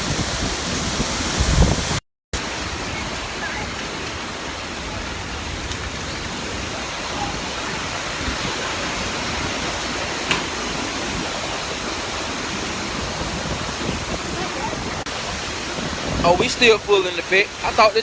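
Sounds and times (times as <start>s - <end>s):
hurricane wind and rain: 0.0s - 18.0s.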